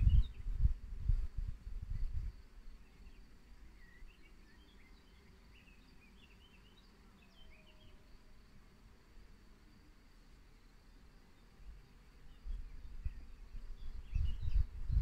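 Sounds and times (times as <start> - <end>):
faint steady high buzz: 0.0 - 15.0
songbirds chirping: 1.9 - 15.0.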